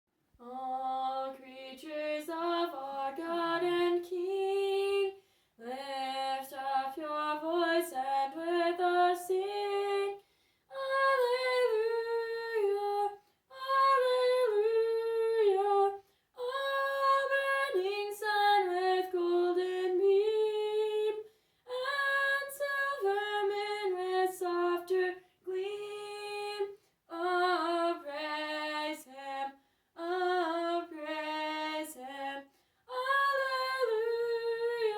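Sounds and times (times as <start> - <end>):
woman singing: 0.4 - 34.9.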